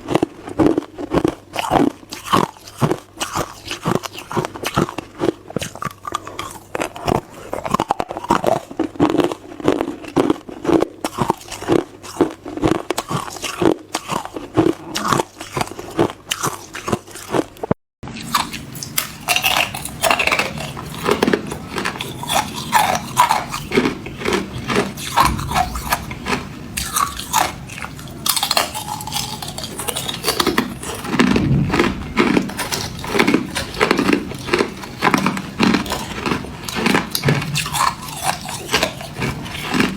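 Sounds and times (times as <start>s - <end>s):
ice being chewed and crunched: 0.0s - 39.9s.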